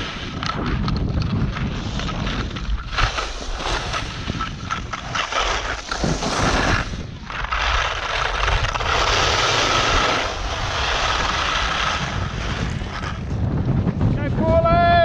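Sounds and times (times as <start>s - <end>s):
skis scraping over snow: 0.0s - 14.7s
wind on microphone: 0.0s - 15.0s.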